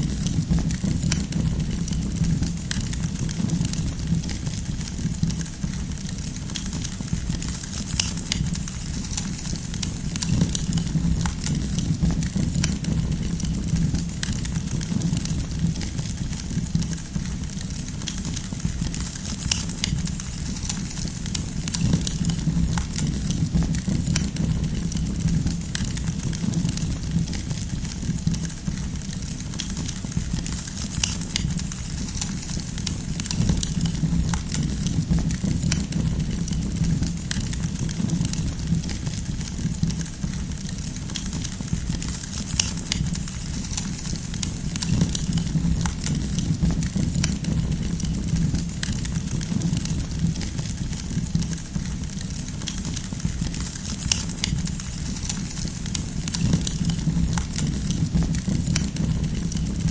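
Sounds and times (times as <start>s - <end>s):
campfire crackling and popping: 0.0s - 59.9s
low rumble of fire: 0.0s - 59.9s.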